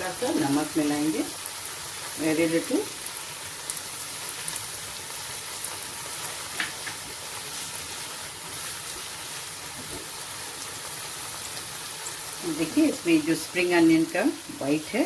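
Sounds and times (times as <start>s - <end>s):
onion and pepper sizzling in oil: 0.0s - 15.0s.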